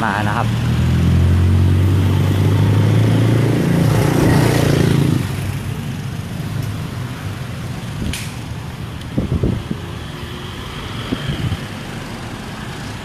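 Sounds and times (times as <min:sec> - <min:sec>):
street traffic: 0:00.0 - 0:13.0
vehicle engine passing close: 0:00.0 - 0:13.0.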